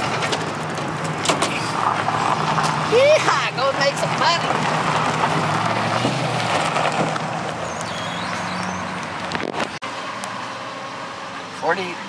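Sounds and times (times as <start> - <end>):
pickup truck engine pulling away: 0.0 - 12.0.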